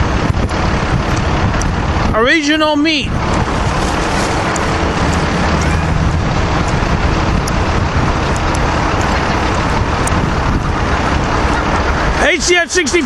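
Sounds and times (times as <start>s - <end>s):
low locomotive hum: 0.0s - 13.0s
train wheels rumbling on rail: 0.0s - 13.0s.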